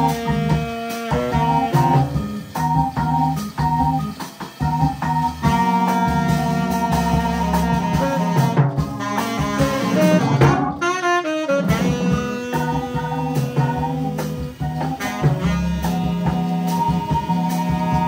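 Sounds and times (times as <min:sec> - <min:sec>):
bass: 0:00.0 - 0:18.0
drum kit: 0:00.0 - 0:18.0
saxophone lead: 0:00.0 - 0:18.0.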